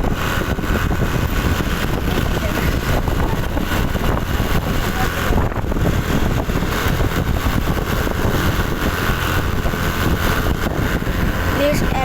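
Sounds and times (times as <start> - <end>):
road noise: 0.0 - 12.0
vehicle engine: 0.0 - 12.0.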